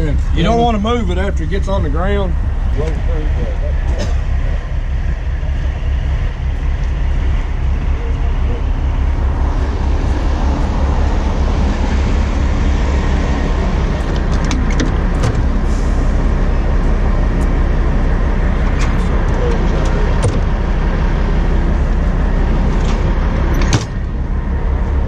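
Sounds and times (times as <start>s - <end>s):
diesel engine rumbling: 0.0s - 25.0s
road traffic: 0.0s - 25.0s.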